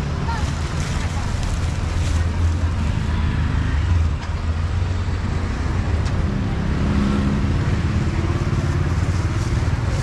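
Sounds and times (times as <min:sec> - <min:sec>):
rumble of passing vehicles: 0:00.0 - 0:10.0.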